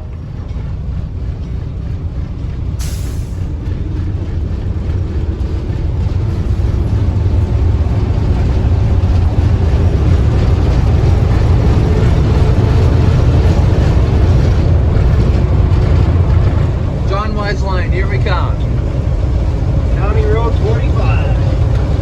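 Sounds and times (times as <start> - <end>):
railway car rumbling on track: 0.0 - 22.0.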